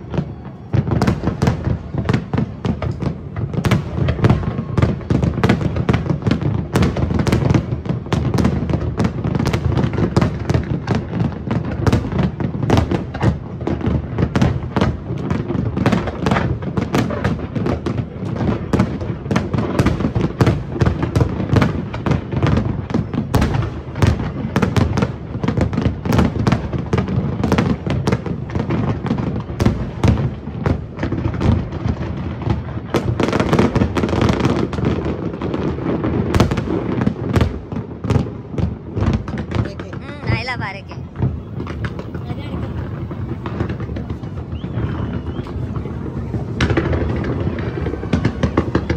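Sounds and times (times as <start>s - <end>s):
fireworks crackling: 0.0s - 48.9s.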